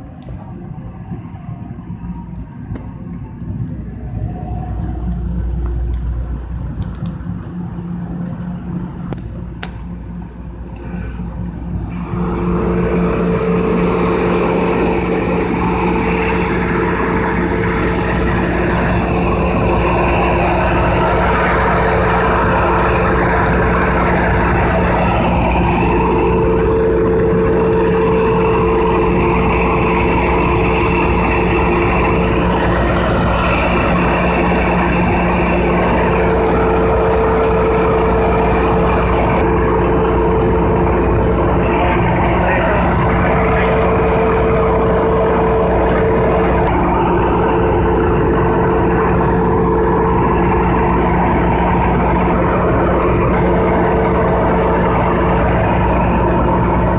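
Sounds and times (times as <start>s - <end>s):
generator running with hum: 0.0s - 56.9s.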